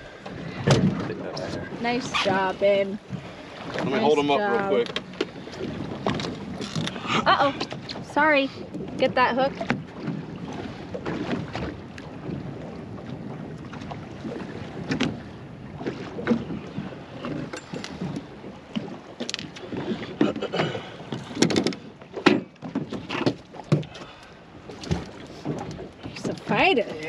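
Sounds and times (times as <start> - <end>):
wind on microphone: 0.0 - 22.0
water slapping against boat hull: 0.0 - 27.0.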